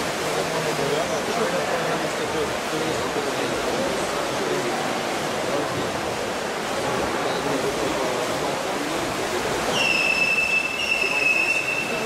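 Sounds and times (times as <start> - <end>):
faint murmur of voices: 0.0 - 12.0
swimmers splashing: 0.0 - 12.0.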